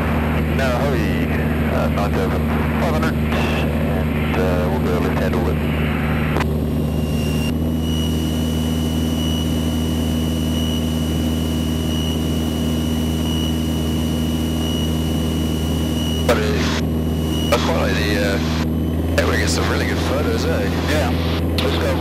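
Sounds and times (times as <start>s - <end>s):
airplane engine droning: 0.0s - 22.0s
faint high whine: 0.0s - 22.0s.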